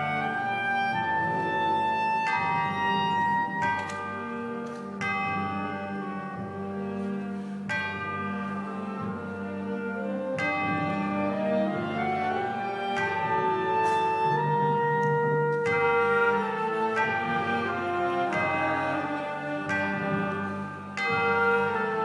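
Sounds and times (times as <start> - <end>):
orchestra playing slow chords: 0.0 - 22.0.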